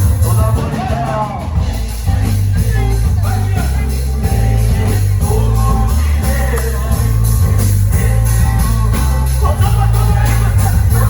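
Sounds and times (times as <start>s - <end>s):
live band playing upbeat song: 0.0s - 11.0s.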